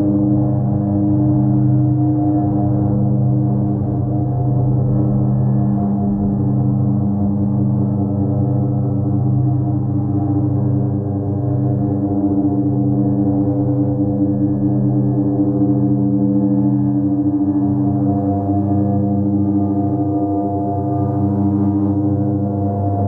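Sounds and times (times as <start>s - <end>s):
synthesizer drone: 0.0s - 23.0s.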